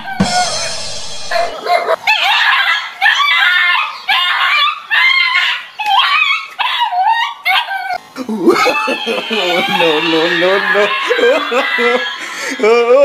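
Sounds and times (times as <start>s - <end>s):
dog rasping cry: 0.0s - 8.0s, 8.6s - 12.5s
dog yelping and howling: 0.0s - 13.0s.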